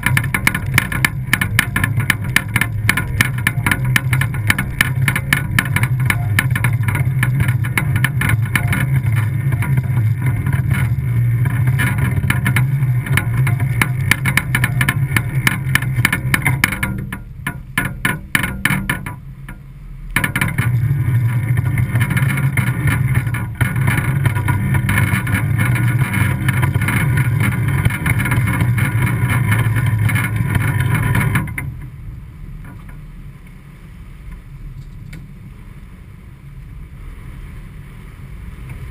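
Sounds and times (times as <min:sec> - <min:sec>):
boat diesel engine running: 0:00.0 - 0:38.9.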